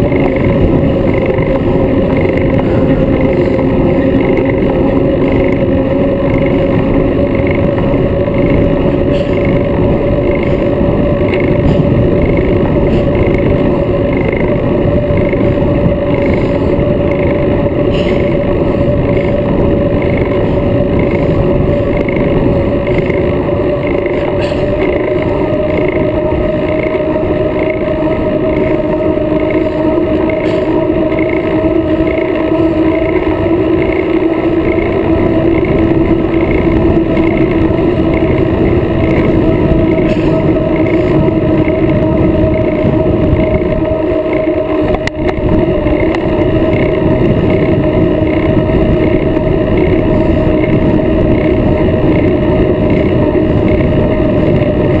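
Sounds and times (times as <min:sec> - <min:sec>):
tyres humming on pavement: 0:00.0 - 0:55.0
wind buffeting microphone: 0:00.0 - 0:55.0.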